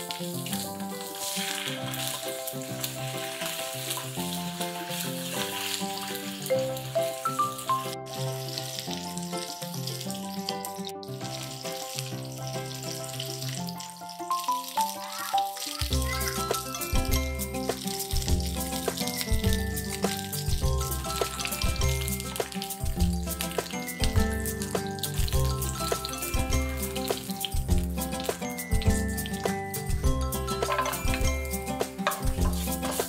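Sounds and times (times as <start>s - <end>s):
fish sizzling in oil: 0.0s - 33.0s
melodic background music: 0.0s - 33.0s.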